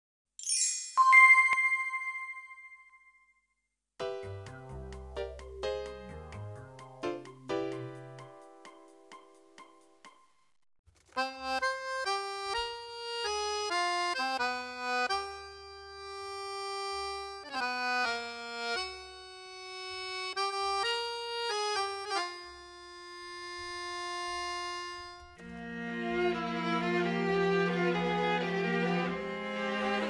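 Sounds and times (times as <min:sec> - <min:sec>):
background music melody: 0:00.4 - 0:10.6, 0:11.2 - 0:30.0.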